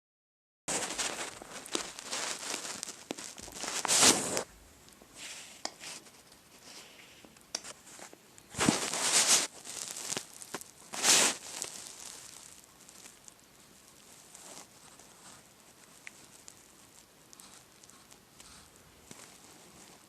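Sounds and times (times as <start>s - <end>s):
crinkling rustling noise: 0.7s - 20.0s.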